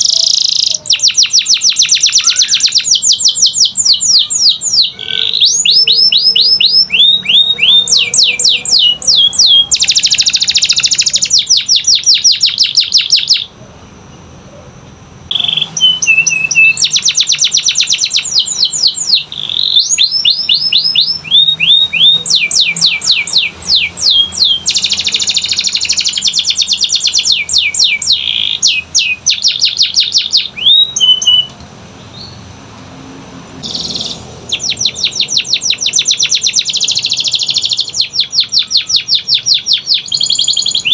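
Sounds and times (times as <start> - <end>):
canary singing trills: 0.0 - 32.6, 33.5 - 40.9.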